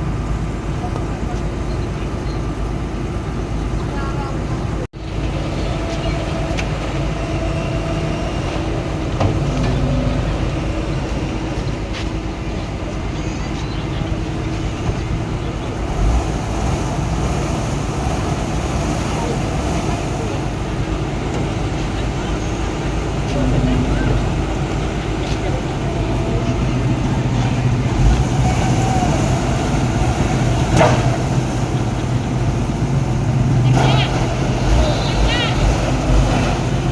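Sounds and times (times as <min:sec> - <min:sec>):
diesel engine rumbling: 0:00.0 - 0:36.9.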